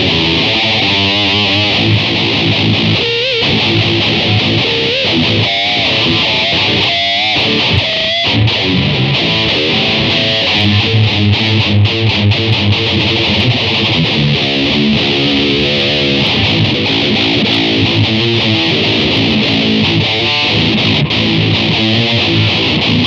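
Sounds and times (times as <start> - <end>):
distorted electric guitar lead: 0.0 - 23.0.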